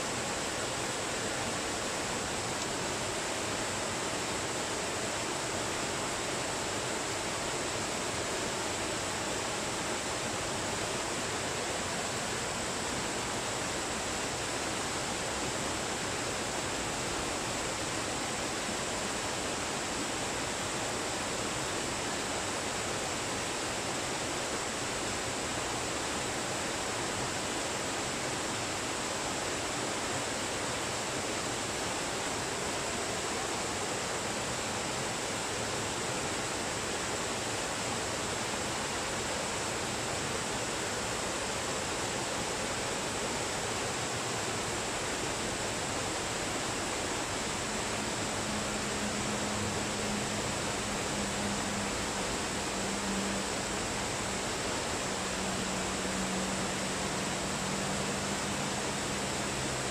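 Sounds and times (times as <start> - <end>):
waterfall rushing and splashing: 0.0 - 59.9.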